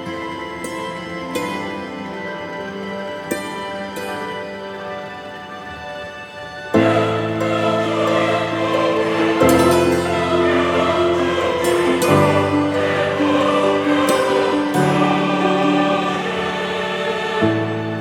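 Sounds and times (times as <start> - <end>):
slow choral music: 0.0 - 18.0.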